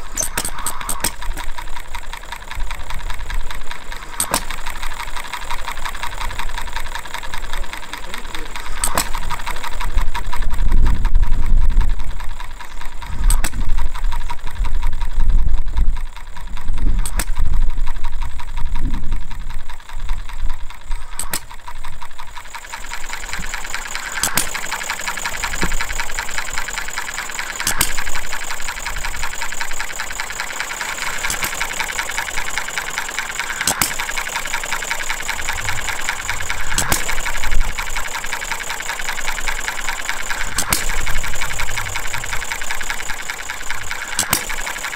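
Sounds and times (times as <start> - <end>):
engine firing crack: 0.0 - 44.9
engine mechanical clatter: 0.0 - 44.9.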